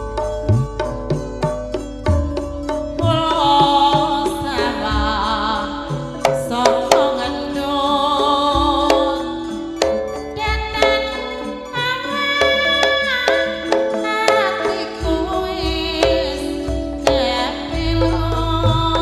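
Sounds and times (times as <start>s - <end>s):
drum strokes: 0.0s - 19.0s
ringing metallophone notes: 0.0s - 19.0s
woman singing: 3.0s - 19.0s.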